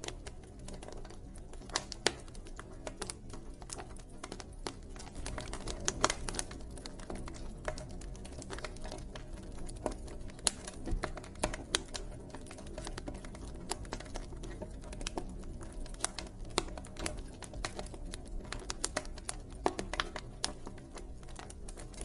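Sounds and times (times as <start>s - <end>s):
wood fire pops and snaps: 0.0s - 22.0s.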